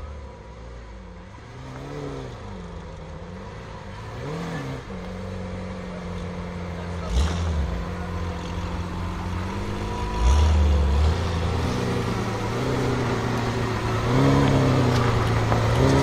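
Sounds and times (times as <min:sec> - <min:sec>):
car engine idling with throttle blips: 0:00.0 - 0:16.0.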